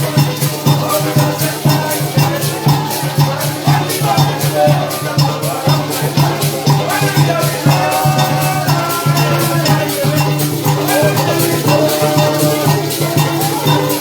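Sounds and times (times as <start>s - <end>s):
maracas shaking: 0.0s - 14.0s
parang band music: 0.0s - 14.0s.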